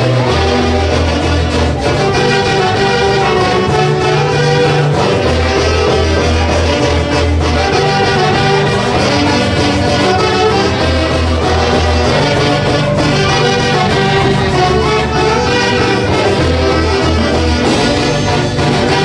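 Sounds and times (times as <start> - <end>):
folk dance music: 0.0 - 19.0
held bass notes: 0.0 - 19.0
loud wind section: 0.0 - 19.0.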